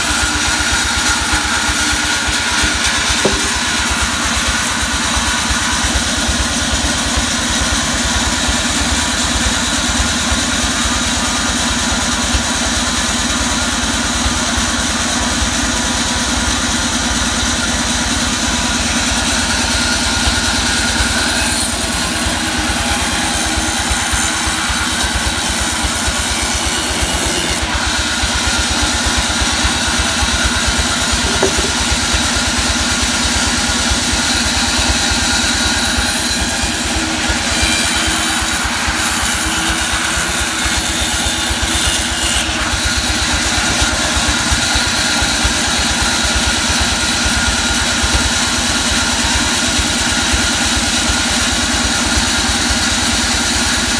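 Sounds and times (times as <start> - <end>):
band sawmill running: 0.0 - 53.9.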